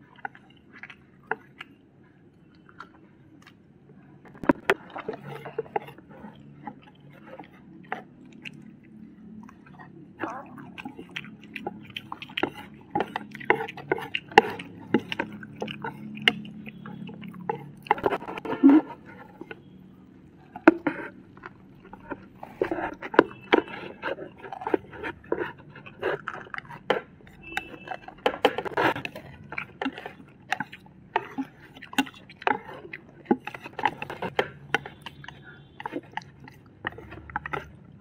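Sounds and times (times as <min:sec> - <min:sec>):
noodles slurped and chewed: 0:00.0 - 0:38.0.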